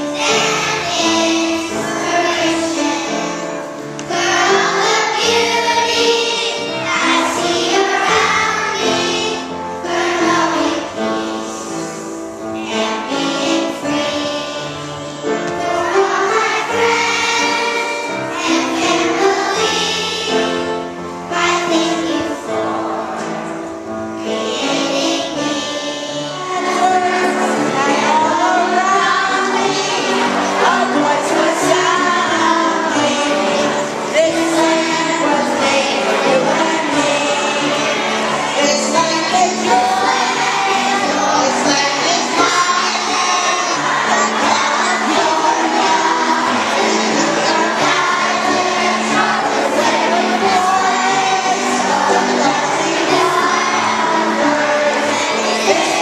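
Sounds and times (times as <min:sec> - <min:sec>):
children singing as a choir: 0:00.0 - 0:56.0.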